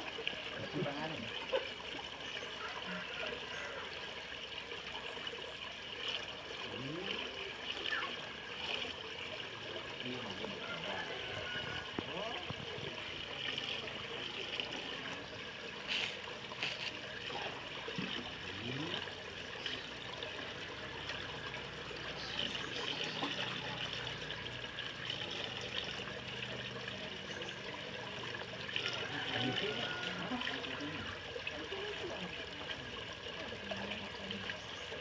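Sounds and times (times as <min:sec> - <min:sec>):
water trickling: 0:00.0 - 0:35.0.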